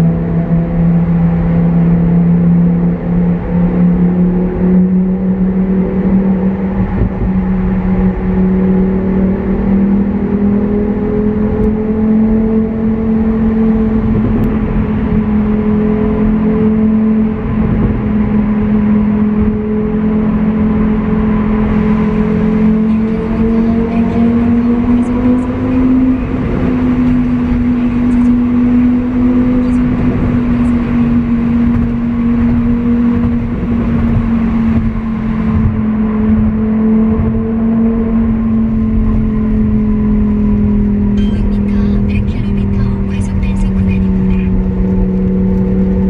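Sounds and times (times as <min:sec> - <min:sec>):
sports car engine under load: 0:00.0 - 0:46.0
tyre and road noise: 0:03.3 - 0:46.0.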